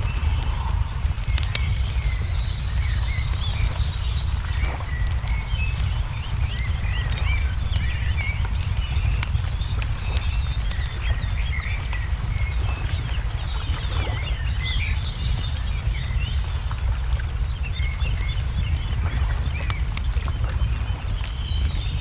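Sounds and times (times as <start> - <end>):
low rumble: 0.0 - 22.0
songbirds chirping: 0.0 - 22.0
wood fire crackling and popping: 0.0 - 22.0.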